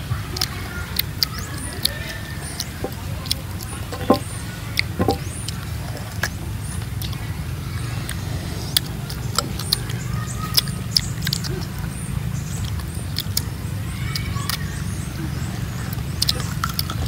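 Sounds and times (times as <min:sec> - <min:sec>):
mouth eating fruit: 0:00.2 - 0:07.3, 0:08.0 - 0:17.0.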